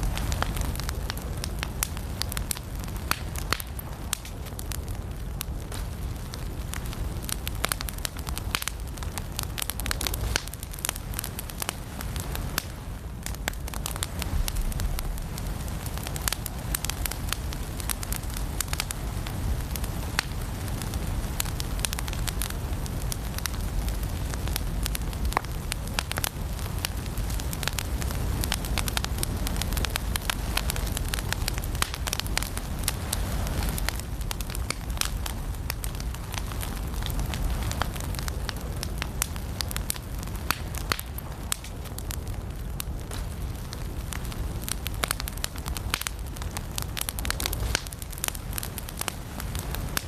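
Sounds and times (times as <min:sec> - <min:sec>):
firewood crackling and popping: 0:00.0 - 0:50.0
low rumble of flames: 0:00.0 - 0:50.0.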